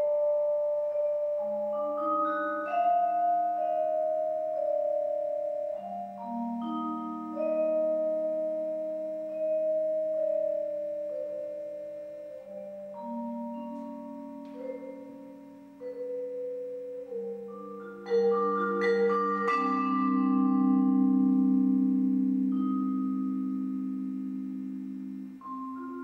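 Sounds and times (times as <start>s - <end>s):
vibraphone chords and notes: 0.0s - 26.0s.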